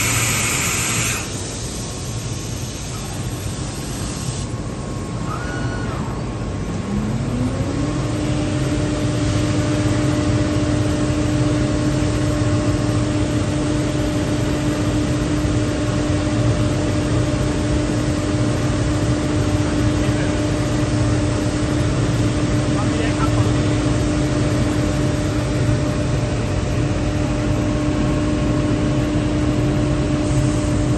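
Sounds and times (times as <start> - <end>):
low machine hum and hiss: 0.0 - 30.9
spindle whine: 4.5 - 30.9.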